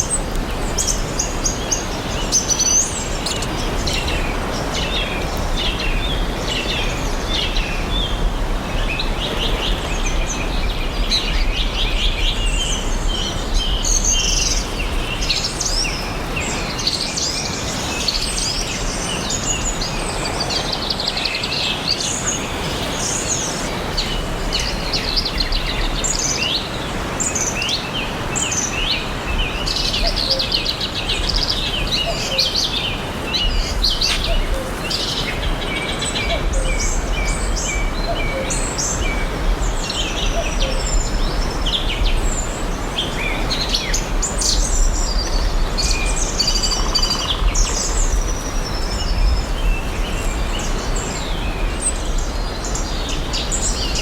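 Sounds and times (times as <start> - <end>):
forest birds singing and chirping: 0.0 - 54.0.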